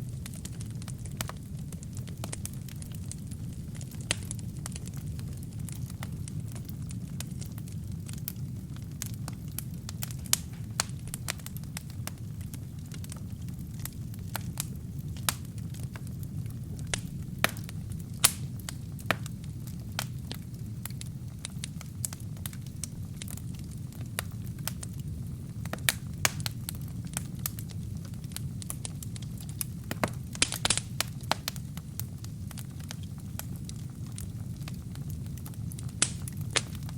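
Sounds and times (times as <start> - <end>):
fire rumbling: 0.0 - 36.9
logs crackling and popping: 0.0 - 36.9.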